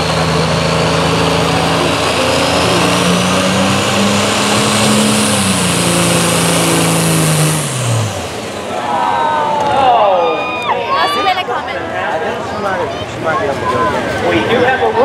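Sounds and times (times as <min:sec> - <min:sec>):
diesel engine under full load: 0:00.0 - 0:15.0.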